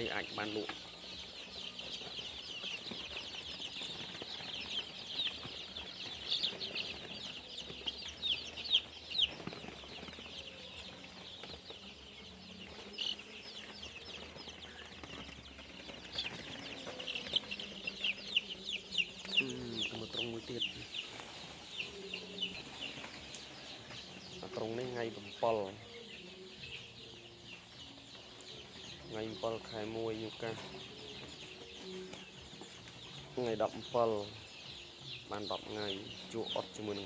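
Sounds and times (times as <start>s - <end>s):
chicks peeping: 0.0s - 37.0s.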